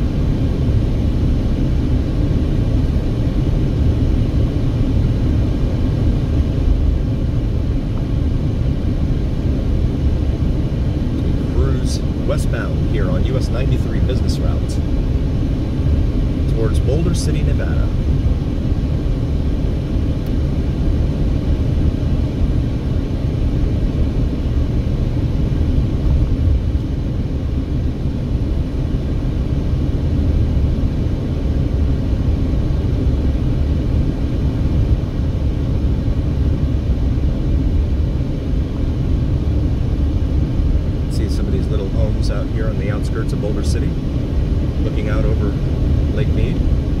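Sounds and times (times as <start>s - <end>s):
car road and engine rumble: 0.0s - 47.0s.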